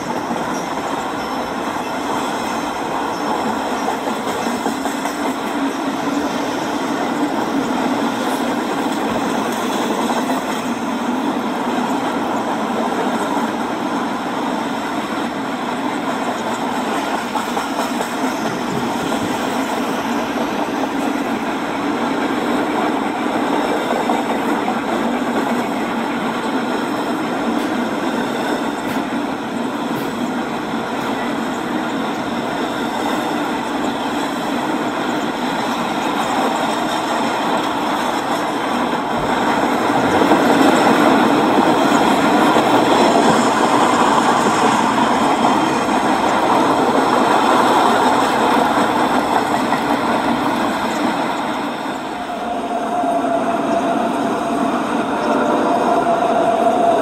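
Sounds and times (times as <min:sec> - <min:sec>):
model trains rolling hum: 0:00.0 - 0:57.0.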